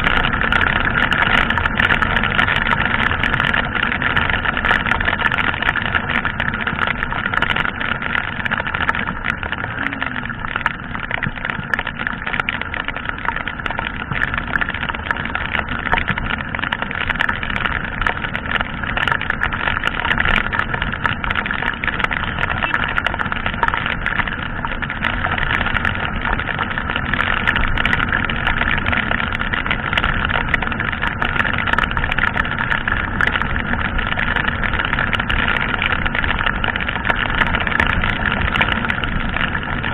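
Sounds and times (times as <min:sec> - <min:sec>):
raindrops ticking on camera: 0:00.0 - 0:39.9
wet road noise: 0:00.0 - 0:39.9.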